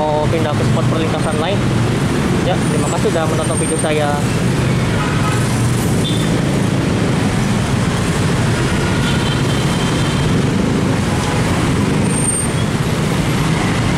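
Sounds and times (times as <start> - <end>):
motorcycles and cars in traffic: 0.0 - 13.9.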